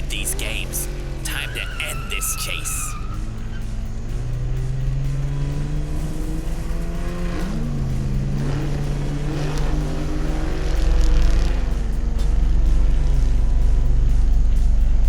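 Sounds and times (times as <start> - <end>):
cartoon car engines revving: 0.0 - 14.7.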